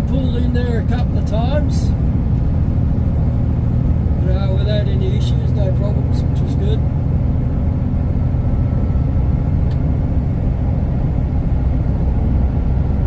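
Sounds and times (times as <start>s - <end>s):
diesel engine and road drone: 0.0s - 13.0s.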